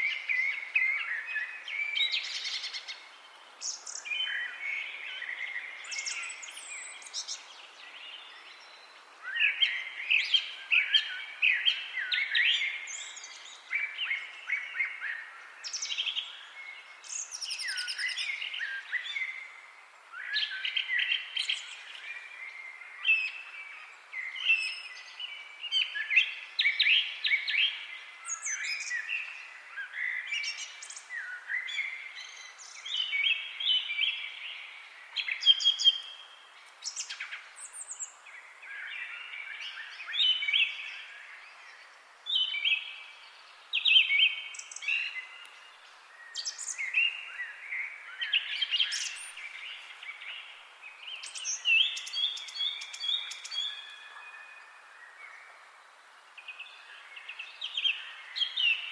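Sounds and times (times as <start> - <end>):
faint background hiss: 0.0 - 58.9
songbirds singing and chirping: 0.0 - 58.9.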